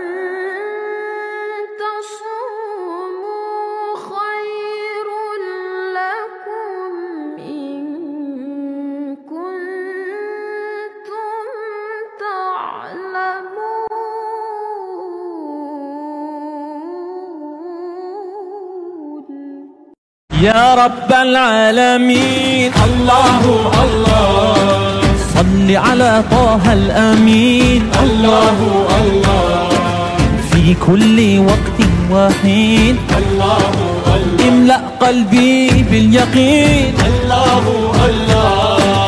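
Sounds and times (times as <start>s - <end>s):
wordless singing voice: 0.0s - 39.0s.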